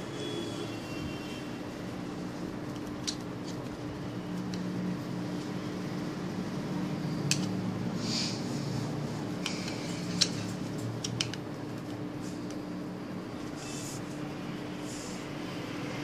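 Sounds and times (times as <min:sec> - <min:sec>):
low fan hum: 0:00.0 - 0:16.0.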